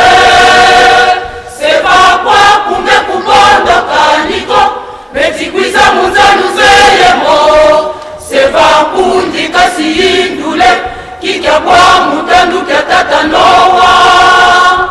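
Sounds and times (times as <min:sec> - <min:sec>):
choir singing: 0:00.0 - 0:14.9.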